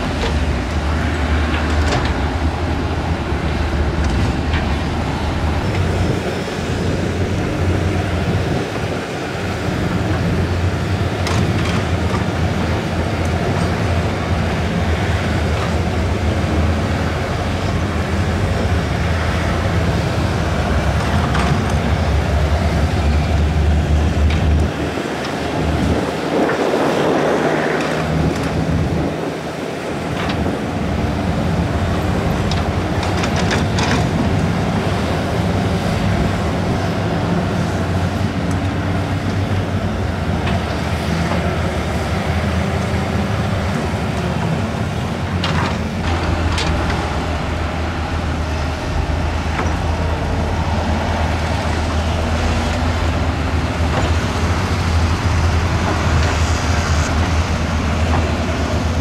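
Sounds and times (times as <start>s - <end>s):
heavy machine diesel engines: 0.0s - 59.0s.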